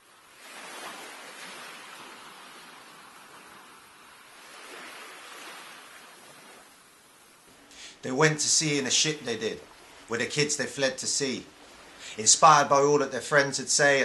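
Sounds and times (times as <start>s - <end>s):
sea waves washing in: 0.0s - 14.0s.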